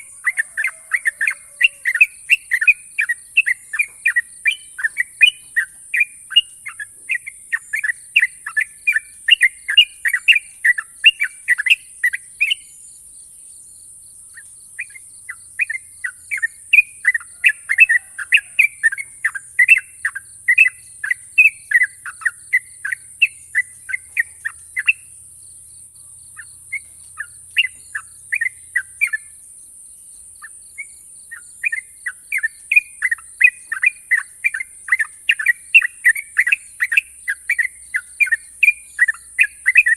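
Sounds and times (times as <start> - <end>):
bird singing sharp chirping notes: 0.0 - 13.7, 14.3 - 29.4, 30.0 - 39.9.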